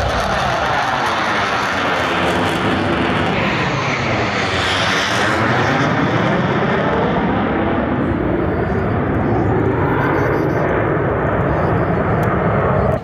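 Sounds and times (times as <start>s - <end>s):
jet roar overhead: 0.0s - 13.0s.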